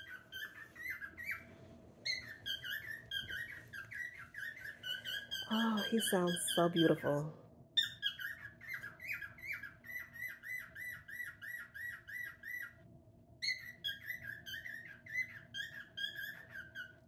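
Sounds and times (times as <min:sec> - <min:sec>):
cockatiel whistling: 0:00.0 - 0:06.8, 0:07.8 - 0:12.8, 0:13.4 - 0:17.0.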